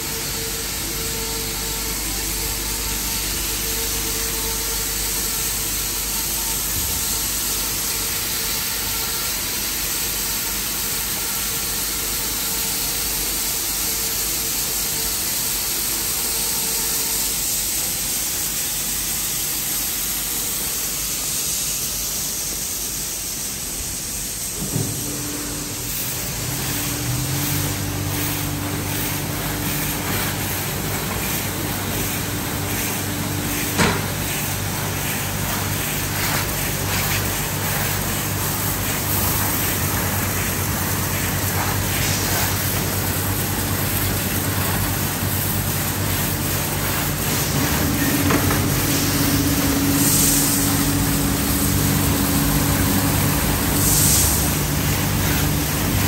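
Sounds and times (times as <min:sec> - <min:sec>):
machinery hum: 0:00.0 - 0:56.0
water jets hissing on car: 0:00.0 - 0:56.0.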